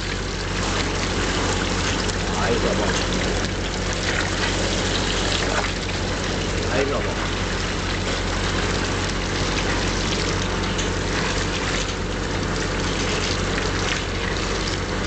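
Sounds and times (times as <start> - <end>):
engine hum: 0.0 - 15.0
hose water splashing into steel tank: 0.0 - 15.0.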